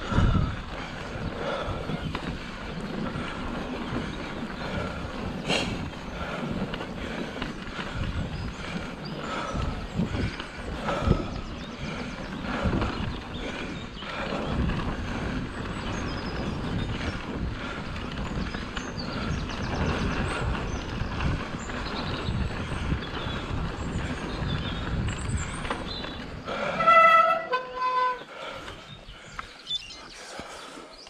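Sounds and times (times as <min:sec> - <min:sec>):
bike knocks and rattles: 0:00.0 - 0:28.2
tyres rumbling on rough ground: 0:00.0 - 0:29.7.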